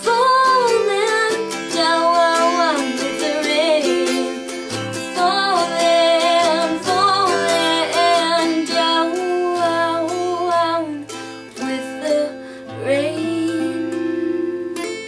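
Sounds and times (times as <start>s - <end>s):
acoustic guitar strumming: 0.0s - 15.0s
woman singing: 0.0s - 15.0s.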